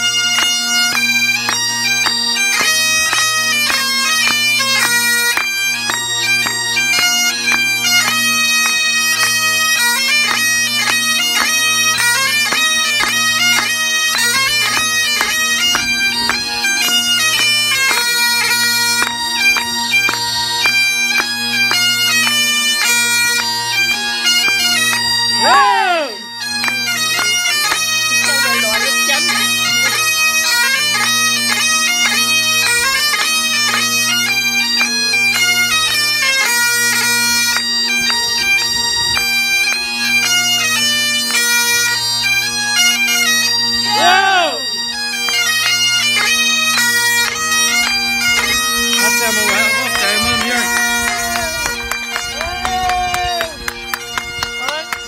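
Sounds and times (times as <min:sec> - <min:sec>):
bagpipes playing: 0:00.0 - 0:55.0.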